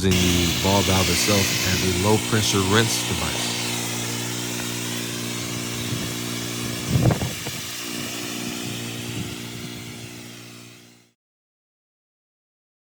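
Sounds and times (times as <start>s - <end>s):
pressure washer water hissing: 0.0s - 11.1s.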